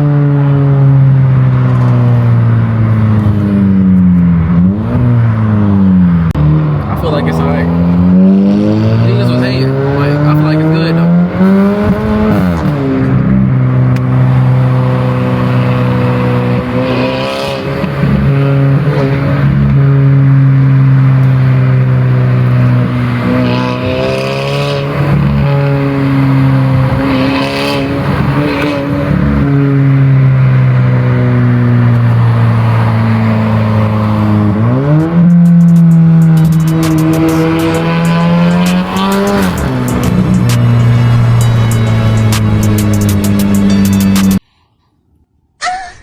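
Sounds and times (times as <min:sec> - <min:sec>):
car engine and exhaust droning: 0:00.0 - 0:45.5.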